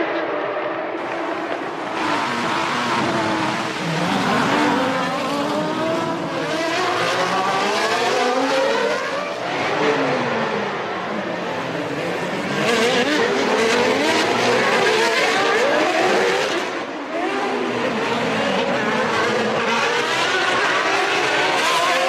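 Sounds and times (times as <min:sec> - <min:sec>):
racing car engines at high revs: 0:00.0 - 0:22.0.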